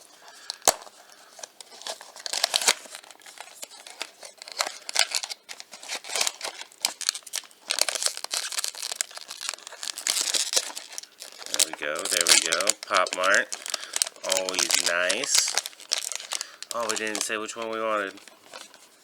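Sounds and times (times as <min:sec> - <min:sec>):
packaging crinkling and tearing: 0:00.0 - 0:19.0.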